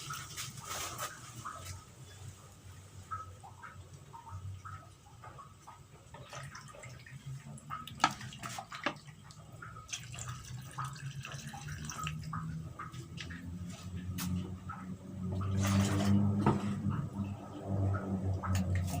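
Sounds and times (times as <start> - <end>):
low steady hum: 0.0 - 19.0
coconut milk bubbling in a pan: 1.8 - 19.0.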